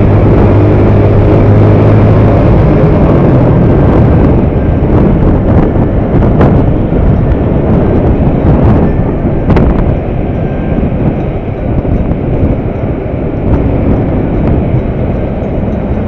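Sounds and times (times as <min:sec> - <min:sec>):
motorcycle engine humming: 0:00.0 - 0:16.0
road noise: 0:00.0 - 0:16.0
wind rushing on microphone: 0:00.0 - 0:16.0.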